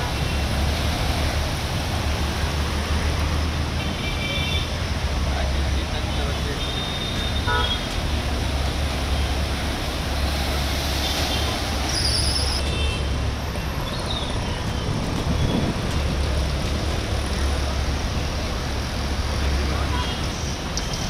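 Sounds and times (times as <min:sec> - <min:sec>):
vehicles driving through flood water: 0:00.0 - 0:21.0
water washing: 0:00.0 - 0:21.0.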